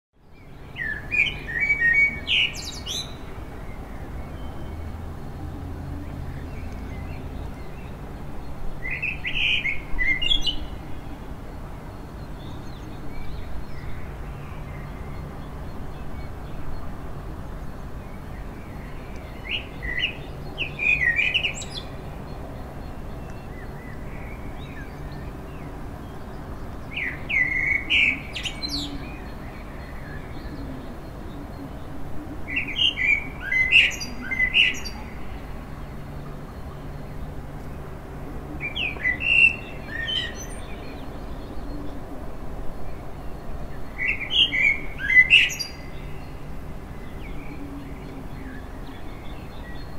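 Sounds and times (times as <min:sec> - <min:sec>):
low city background hum: 0:00.2 - 0:49.9
songbird singing: 0:00.2 - 0:49.9.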